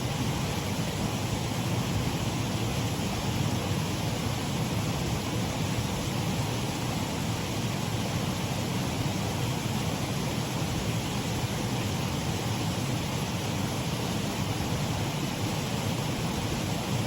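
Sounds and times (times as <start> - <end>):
water rushing over low waterfall: 0.0 - 17.0.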